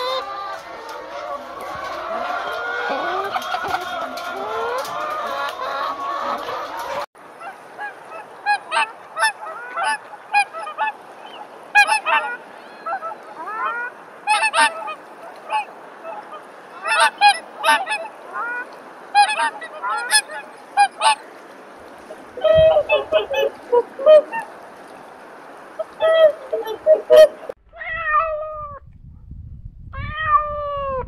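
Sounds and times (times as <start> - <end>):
geese honking: 0.0 - 21.2, 22.1 - 24.5, 25.8 - 27.6
hens clucking: 0.0 - 21.3, 22.0 - 24.6, 25.8 - 27.6.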